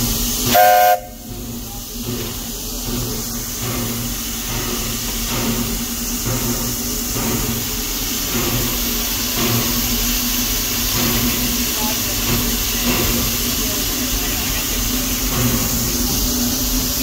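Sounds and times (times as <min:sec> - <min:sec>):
soft rhythmic locomotive puffs: 0:00.0 - 0:17.0
steam locomotive hissing and humming: 0:00.0 - 0:17.0.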